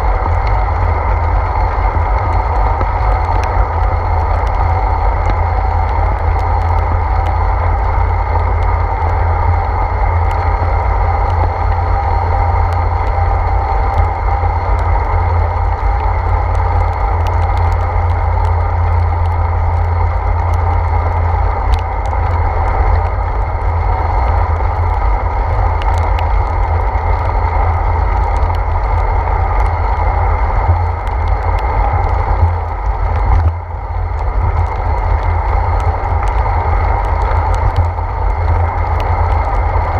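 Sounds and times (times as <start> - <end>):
low wind rumble: 0.0 - 39.9
tyre noise on wet road: 0.0 - 39.9.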